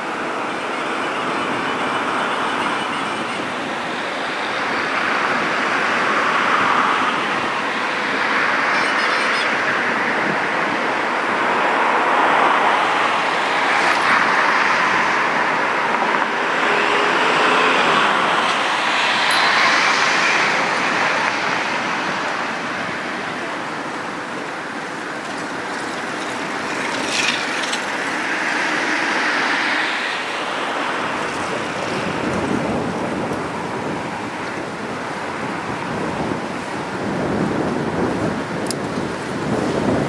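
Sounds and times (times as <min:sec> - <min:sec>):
vehicle noise: 0:00.0 - 0:40.0.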